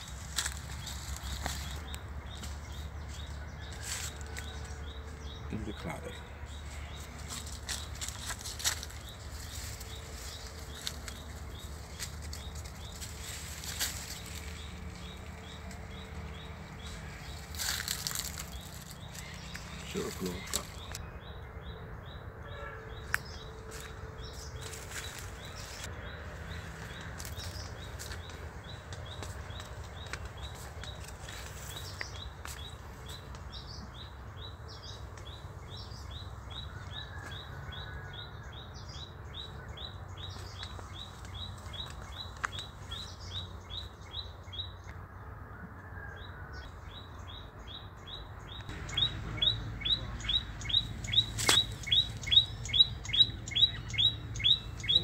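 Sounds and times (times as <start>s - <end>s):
bird chirping: 0.0s - 45.0s, 46.1s - 55.0s.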